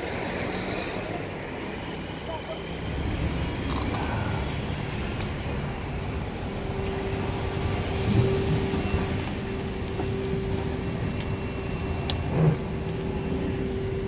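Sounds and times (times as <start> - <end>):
road traffic rumble: 0.0 - 14.0
steady hum: 0.2 - 14.0.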